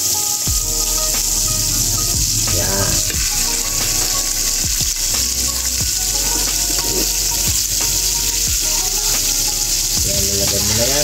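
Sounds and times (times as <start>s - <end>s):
shrimp sizzling in a wok: 0.0s - 11.0s.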